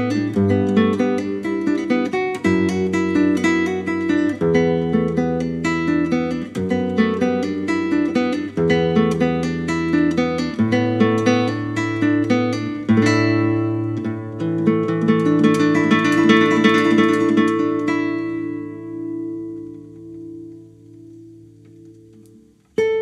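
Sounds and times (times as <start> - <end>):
fingerpicked classical guitar: 0.0 - 23.0.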